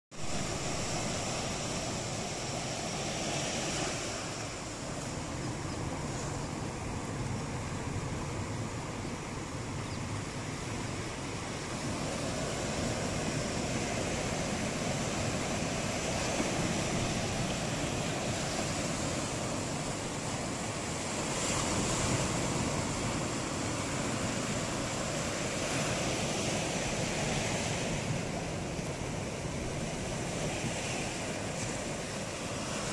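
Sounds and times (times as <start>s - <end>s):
sea surf breaking: 0.1s - 32.9s.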